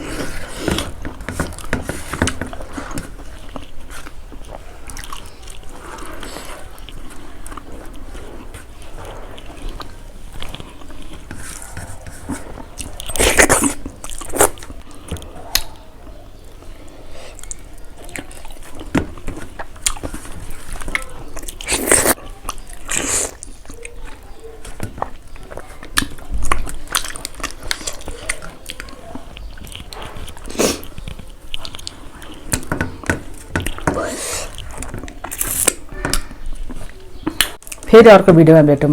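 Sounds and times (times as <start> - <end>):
chewing and crunching food: 0.0 - 38.0.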